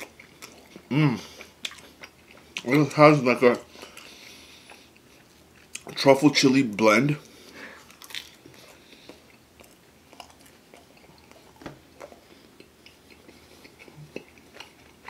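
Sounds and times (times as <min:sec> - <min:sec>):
person chewing pizza: 0:00.0 - 0:15.0.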